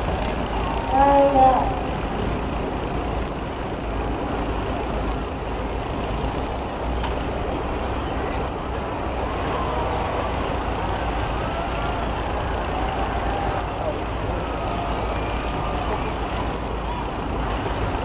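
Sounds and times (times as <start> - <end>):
heavy vehicle engines rumbling: 0.0 - 18.0.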